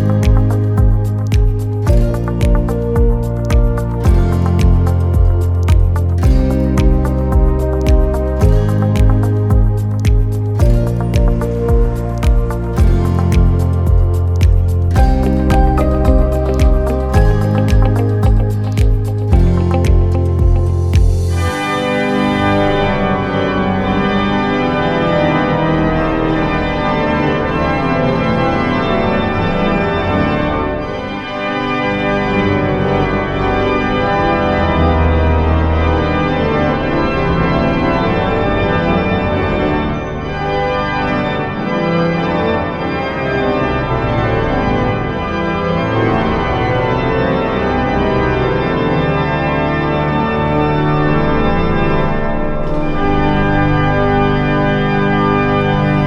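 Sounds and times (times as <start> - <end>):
organ-like chords: 0.0 - 56.0.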